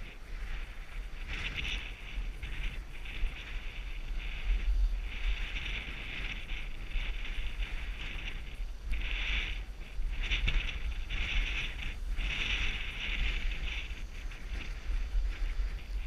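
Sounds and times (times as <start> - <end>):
skis scraping over snow: 0.0 - 16.0
wind on microphone: 0.0 - 16.0.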